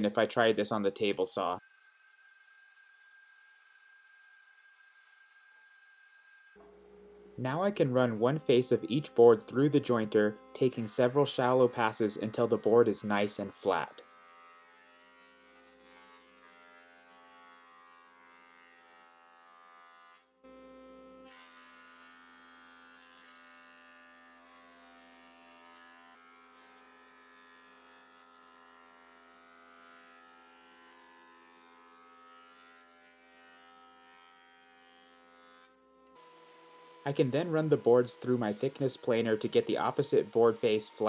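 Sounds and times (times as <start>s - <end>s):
electric motor hum: 0.0s - 41.0s.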